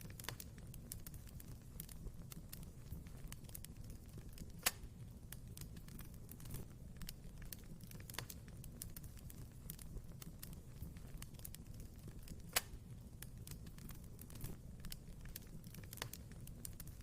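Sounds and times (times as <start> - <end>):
fire crackles: 0.0 - 17.0
low rumble of fire: 0.0 - 17.0.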